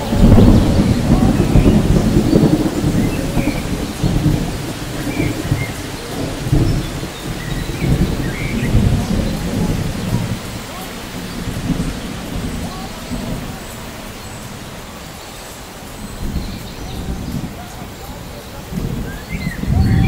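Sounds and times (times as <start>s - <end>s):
rolling thunder rumble: 0.0s - 20.0s
steady rain: 0.0s - 20.0s.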